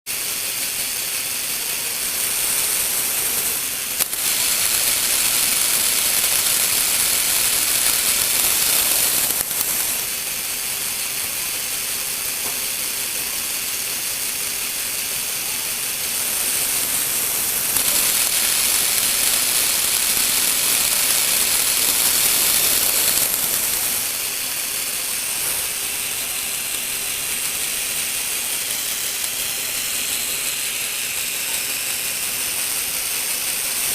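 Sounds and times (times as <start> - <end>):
plastic gears whirring and clattering: 0.1 - 33.9.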